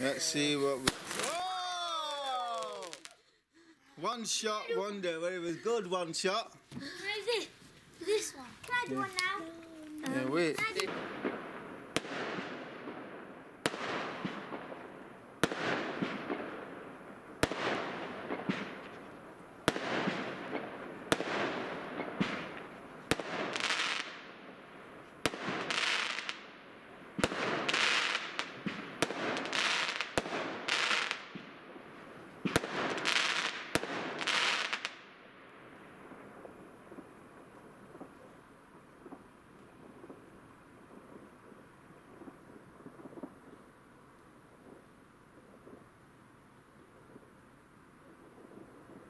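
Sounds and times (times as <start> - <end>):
fireworks bangs: 0.0 - 45.9
crackling hiss: 0.0 - 49.0.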